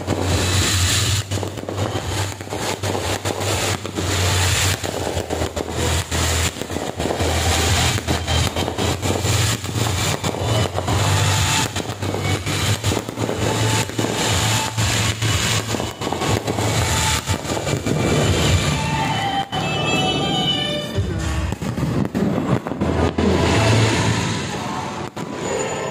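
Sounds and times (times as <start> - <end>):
fireworks crackling and popping: 0.0 - 25.9.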